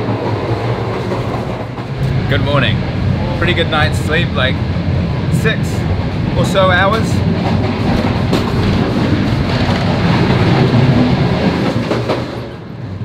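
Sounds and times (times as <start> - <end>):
train rumbling and rattling: 0.0 - 13.0.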